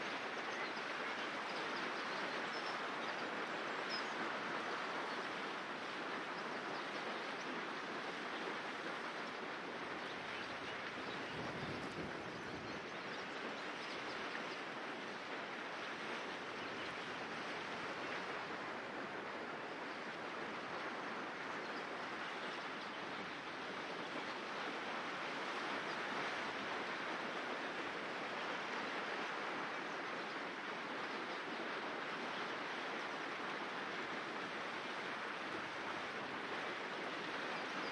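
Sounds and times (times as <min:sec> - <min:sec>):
river rushing over stones: 0:00.0 - 0:37.9.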